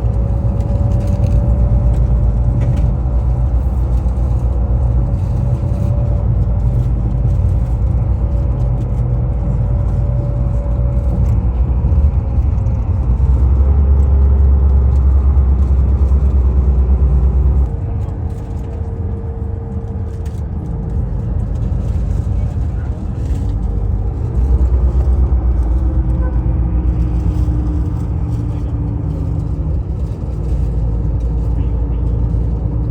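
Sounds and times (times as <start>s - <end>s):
bus engine and road rumble: 0.0s - 32.9s.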